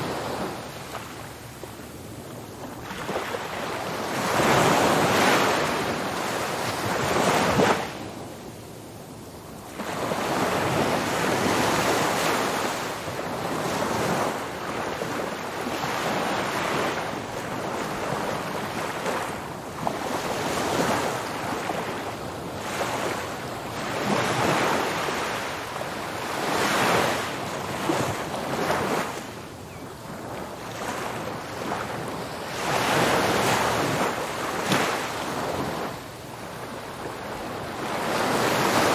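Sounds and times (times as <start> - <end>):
ocean waves breaking on beach: 0.0 - 8.6, 9.5 - 38.9.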